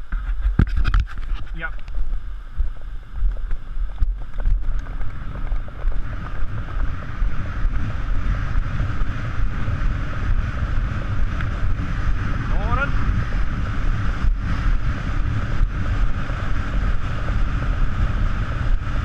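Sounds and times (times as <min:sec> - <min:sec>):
wind buffeting microphone: 0:00.0 - 0:19.0
steady hiss: 0:01.2 - 0:19.0.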